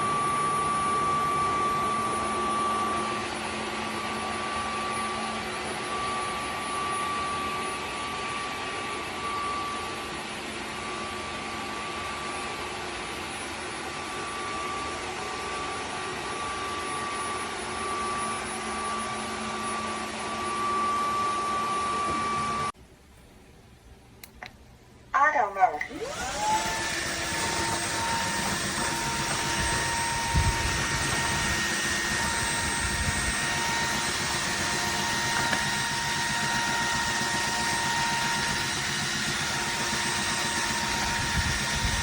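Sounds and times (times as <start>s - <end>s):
vacuum mop suction with high whine: 0.0s - 22.7s, 25.8s - 42.0s.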